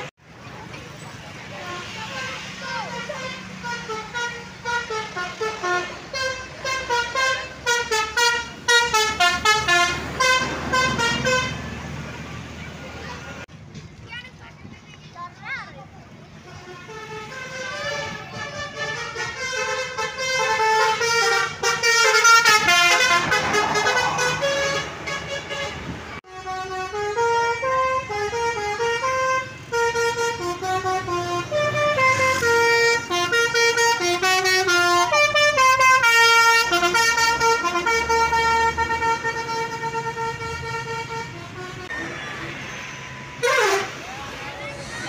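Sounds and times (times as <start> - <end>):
multi-tone bus horn melodies: 1.4 - 12.0, 16.4 - 44.4.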